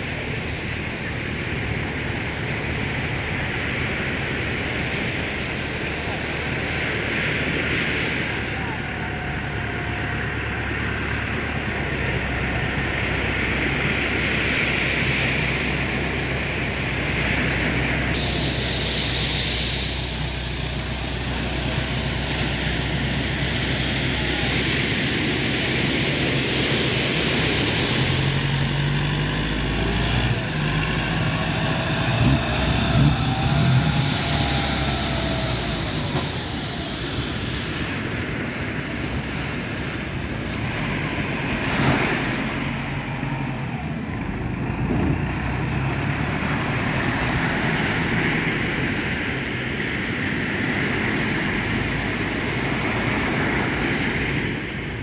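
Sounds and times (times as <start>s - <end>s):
boat motor engine: 0.0s - 55.0s
wind: 0.0s - 55.0s.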